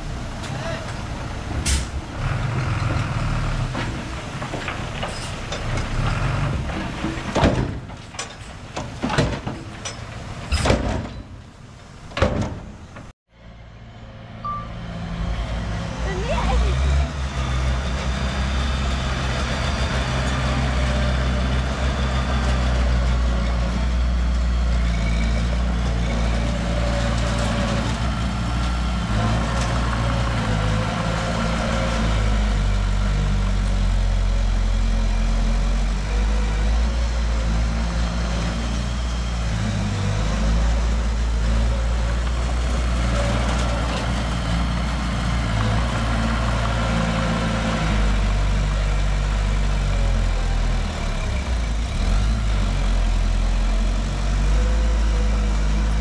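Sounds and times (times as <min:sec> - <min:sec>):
diesel engine running low: 0:00.0 - 0:56.0.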